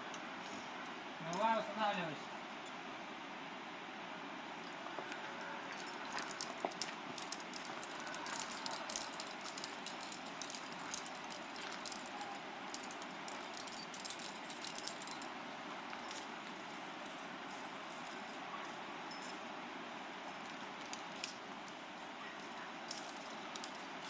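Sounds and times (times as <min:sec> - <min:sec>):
metal climbing gear clinking: 0:04.6 - 0:24.0.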